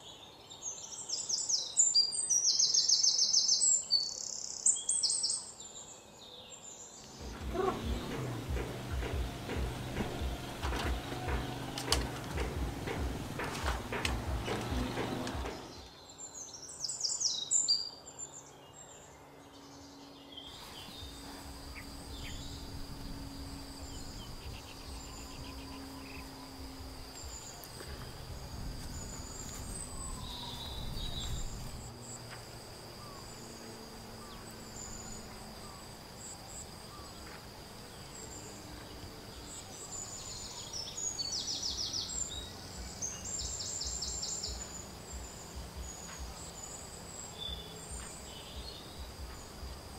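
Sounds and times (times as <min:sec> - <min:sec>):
insect drone: 0:00.0 - 0:49.9.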